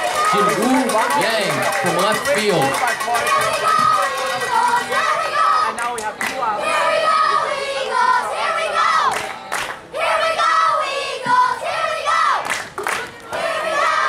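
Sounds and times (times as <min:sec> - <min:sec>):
young voices chanting a cheer: 0:00.0 - 0:14.0.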